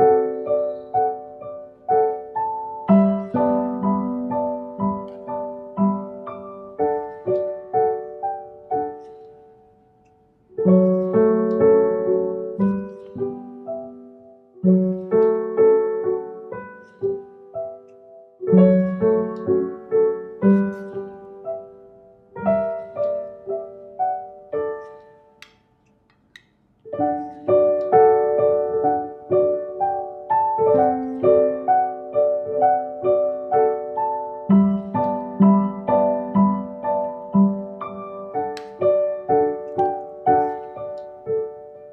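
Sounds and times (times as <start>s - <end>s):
piano music: 0.0s - 25.5s, 26.9s - 41.9s.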